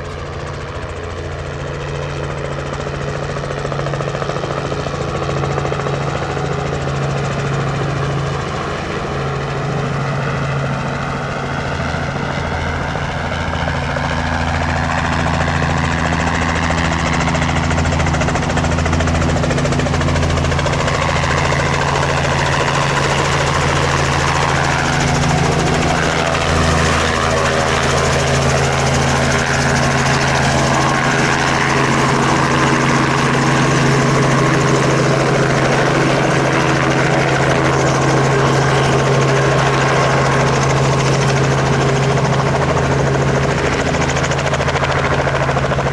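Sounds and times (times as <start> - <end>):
helicopter engine and rotor: 0.0 - 45.9.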